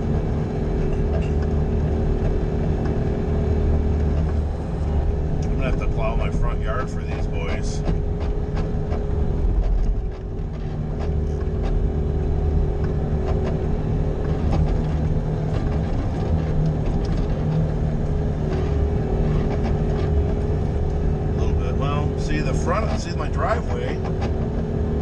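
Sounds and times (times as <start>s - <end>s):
loader engine running: 0.0s - 25.0s
steady whine: 0.0s - 25.0s.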